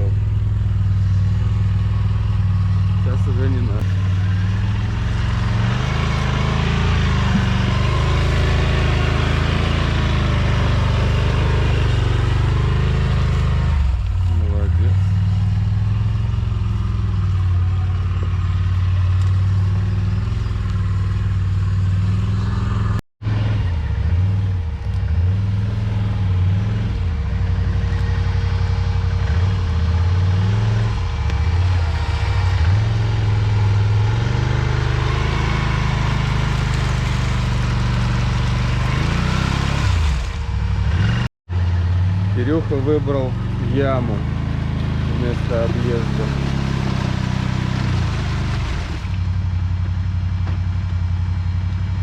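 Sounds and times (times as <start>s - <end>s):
quad bike engine under load: 0.0s - 41.3s, 42.2s - 51.0s.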